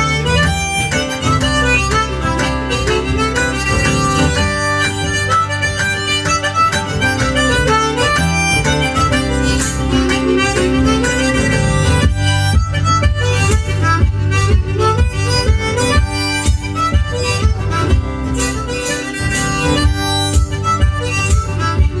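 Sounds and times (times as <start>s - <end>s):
harmonica melody: 0.0s - 22.0s
percussive hits: 0.9s - 22.0s.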